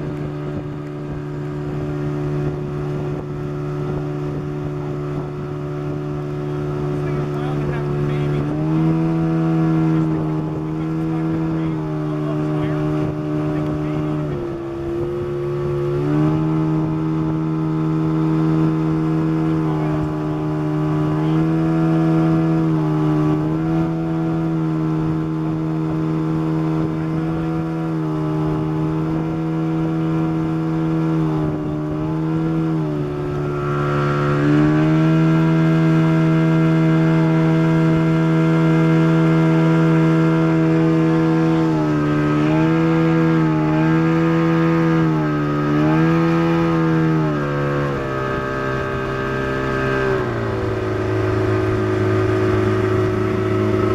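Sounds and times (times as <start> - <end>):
boat motor running: 0.0 - 53.9.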